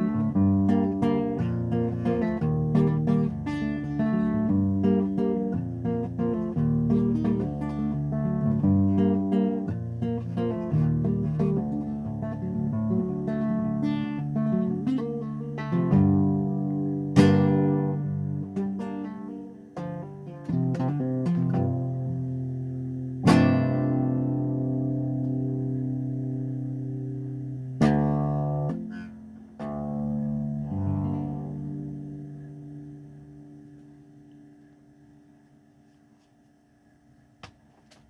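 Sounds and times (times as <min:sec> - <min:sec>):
guitar playing picked notes and chords: 0:00.0 - 0:34.5.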